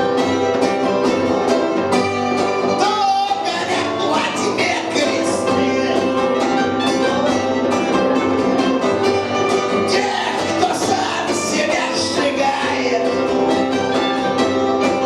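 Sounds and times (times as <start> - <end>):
punk band playing live: 0.0 - 15.0.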